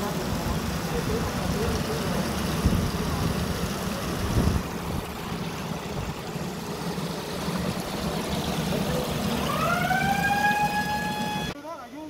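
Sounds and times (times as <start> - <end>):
machine humming and rushing: 0.0 - 11.6.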